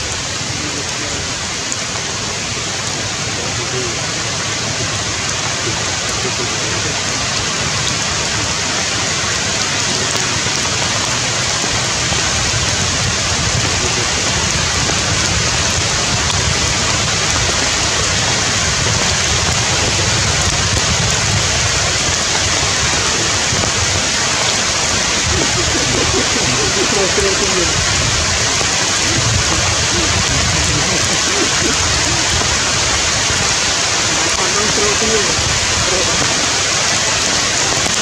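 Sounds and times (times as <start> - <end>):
rain falling on foliage: 0.0 - 38.0.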